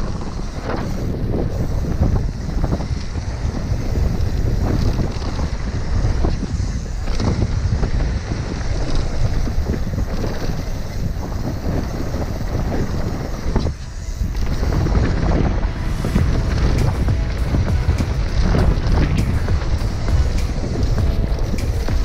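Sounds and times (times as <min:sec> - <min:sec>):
bike clattering over bumps: 0:00.0 - 0:22.0
tyres rumbling on dirt trail: 0:00.0 - 0:22.0
wind buffeting microphone: 0:00.0 - 0:22.0.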